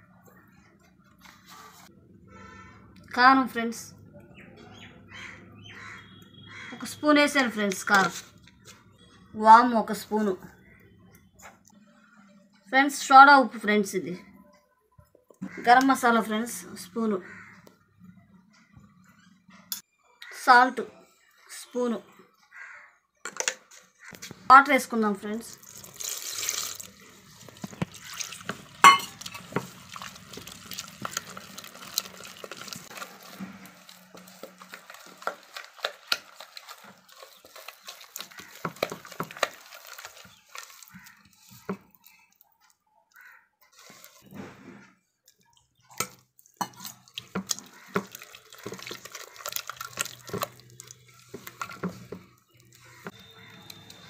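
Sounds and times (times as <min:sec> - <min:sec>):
wet squelches of batter mixing: 0:00.3 - 0:03.5, 0:04.8 - 0:14.4, 0:15.0 - 0:19.4, 0:23.8 - 0:54.0.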